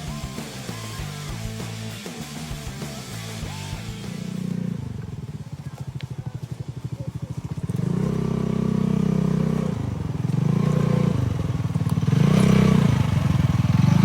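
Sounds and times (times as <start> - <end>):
small engine idling and revving: 0.0 - 14.0.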